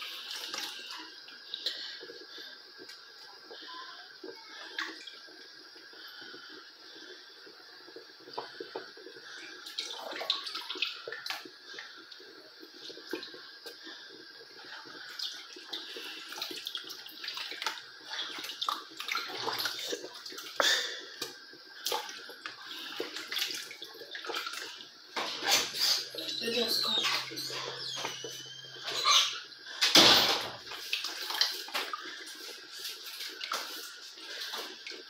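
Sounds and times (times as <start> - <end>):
soup boiling and bubbling: 0.0 - 35.0.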